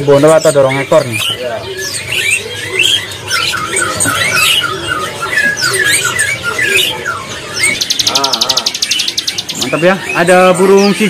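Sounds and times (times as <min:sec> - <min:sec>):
songbirds chirping and whistling: 0:00.0 - 0:11.0.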